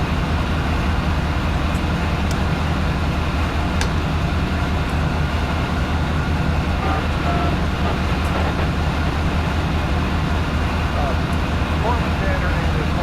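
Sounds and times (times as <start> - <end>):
train idling rumble: 0.0 - 13.0.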